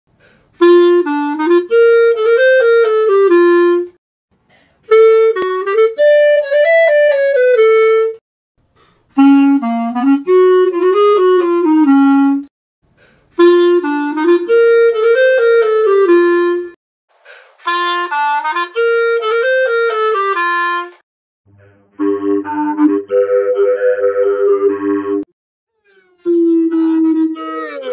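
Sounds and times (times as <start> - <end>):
clarinet melody with voice effects: 0.6 - 4.0, 4.9 - 8.2, 9.2 - 12.5, 13.4 - 16.8, 17.7 - 21.0, 21.9 - 27.9.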